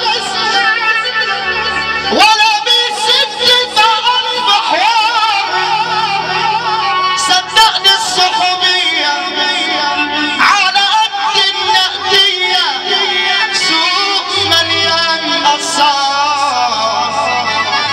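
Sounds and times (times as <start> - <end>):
amplified backing music: 0.0 - 17.9
man singing into a microphone: 0.0 - 17.9.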